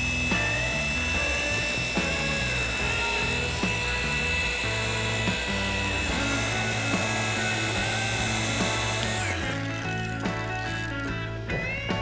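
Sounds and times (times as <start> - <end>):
background music with light beat: 0.0 - 12.0
rotary polisher whining: 0.0 - 12.0.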